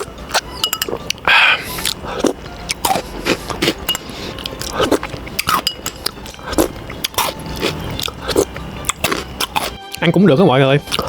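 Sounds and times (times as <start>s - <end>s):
candy crunching: 0.0s - 10.1s.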